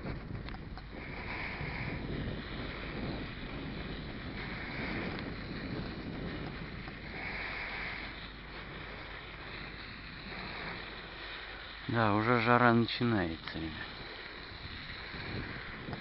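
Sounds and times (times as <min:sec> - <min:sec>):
bike tyres rolling on dirt: 0:00.0 - 0:16.0
wind on microphone: 0:00.0 - 0:16.0.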